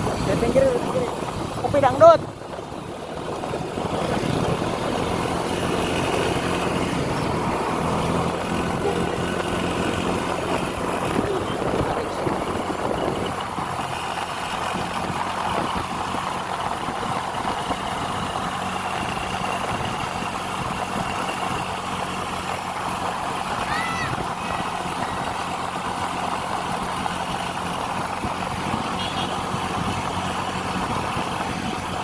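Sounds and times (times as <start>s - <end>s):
heavy vehicle engine rumbling: 0.0s - 32.0s.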